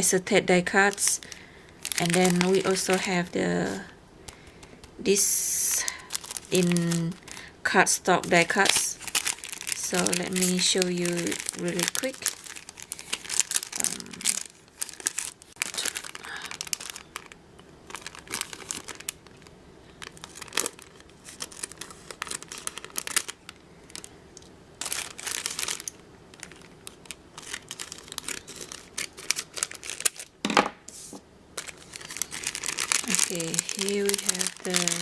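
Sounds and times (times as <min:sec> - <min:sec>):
plastic packaging crinkling: 0:00.0 - 0:35.0
plastic rustle: 0:00.7 - 0:04.9, 0:05.6 - 0:35.0.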